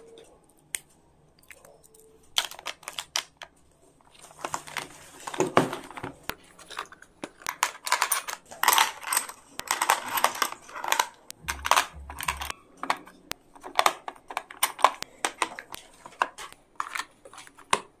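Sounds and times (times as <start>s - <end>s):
pencils clattering into plastic case: 2.2s - 18.0s.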